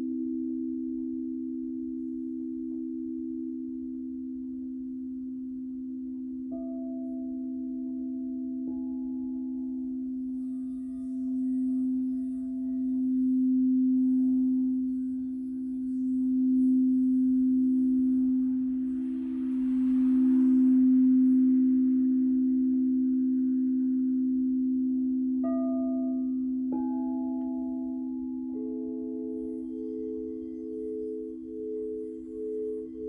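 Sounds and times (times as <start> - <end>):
singing bowls low sustained tones: 0.0 - 33.0.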